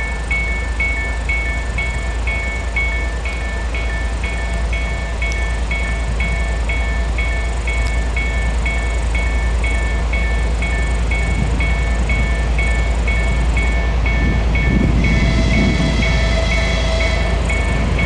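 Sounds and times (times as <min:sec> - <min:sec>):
freight train passing: 0:00.0 - 0:18.0.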